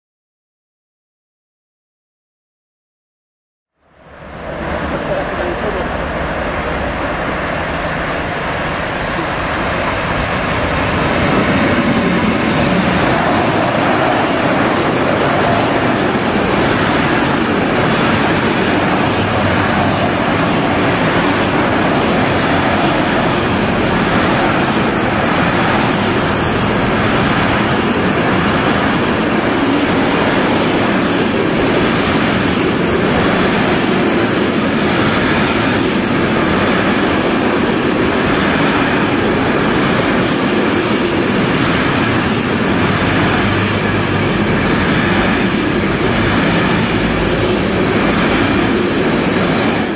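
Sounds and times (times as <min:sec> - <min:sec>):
freight train wheels on rails: 0:03.8 - 0:49.9.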